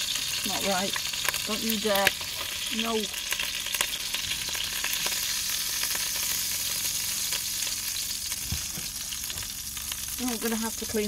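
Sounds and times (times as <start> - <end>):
burgers sizzling in pan: 0.0 - 11.0.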